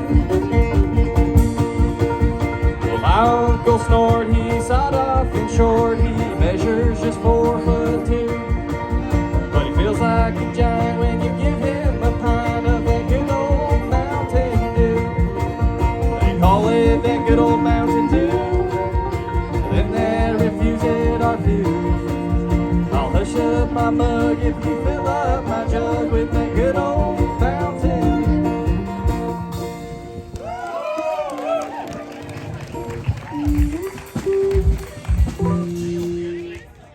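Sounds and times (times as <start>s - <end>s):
banjo: 0.0s - 30.2s, 32.7s - 36.9s
percussion beat: 0.0s - 30.8s, 31.4s - 36.9s
guitar: 0.0s - 36.9s.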